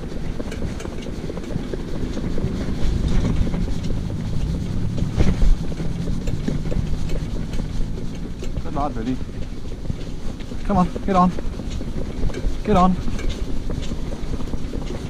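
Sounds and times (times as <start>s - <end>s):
cart wheels rumbling on road: 0.0s - 15.0s
wind buffeting microphone: 0.0s - 15.0s.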